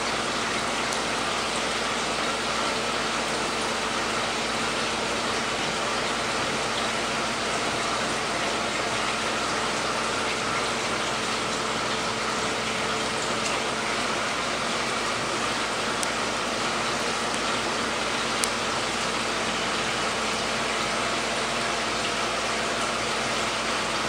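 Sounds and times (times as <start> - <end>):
faint steady hum: 0.0 - 24.0
running water splashing: 0.0 - 24.0.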